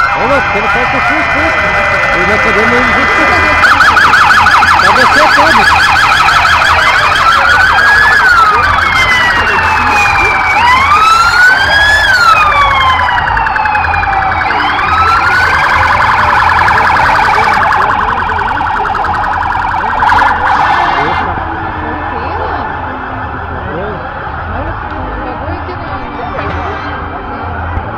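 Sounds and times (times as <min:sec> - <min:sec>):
fast-warbling siren: 0:00.0 - 0:25.5
police siren slow wail: 0:00.0 - 0:27.9.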